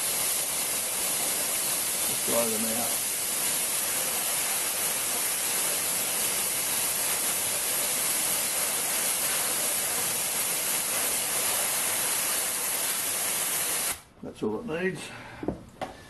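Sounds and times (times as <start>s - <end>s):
air blow gun hissing: 0.0s - 14.1s.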